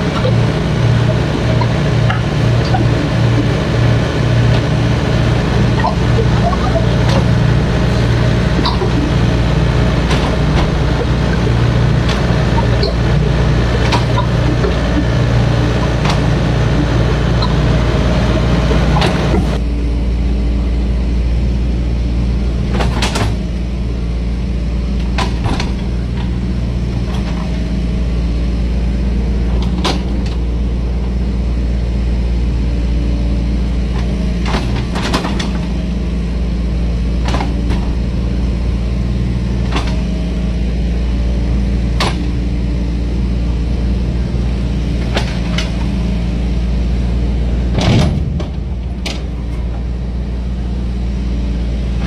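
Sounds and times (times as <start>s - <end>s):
diesel excavator engine running: 0.0s - 52.0s.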